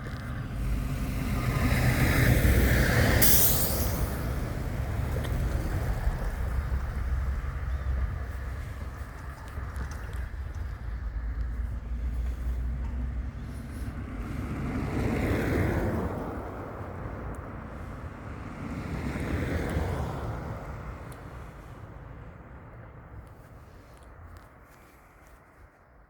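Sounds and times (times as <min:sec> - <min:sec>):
wind buffeting microphone: 0:00.0 - 0:25.8
gusting snowstorm wind: 0:00.0 - 0:26.0.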